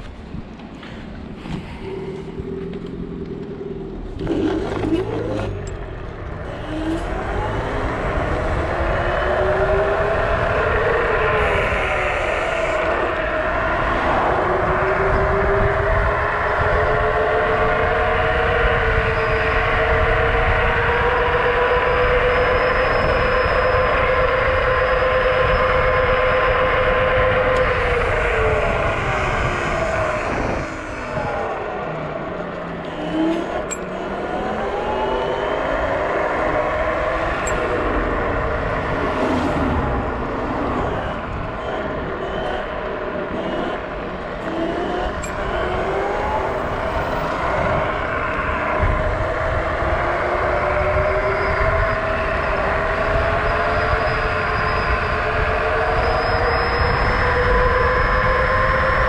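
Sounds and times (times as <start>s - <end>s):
electric scooter motor whine: 0.0s - 59.0s
wind rush on microphone: 0.0s - 59.0s.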